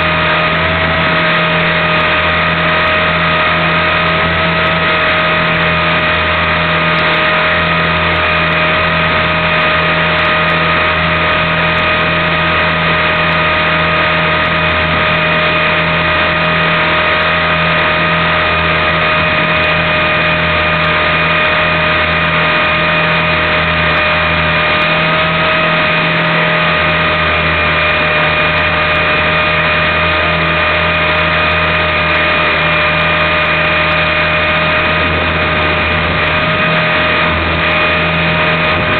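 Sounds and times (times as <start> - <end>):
electric motor whine: 0.0 - 38.9
rotor buzz: 0.0 - 38.9.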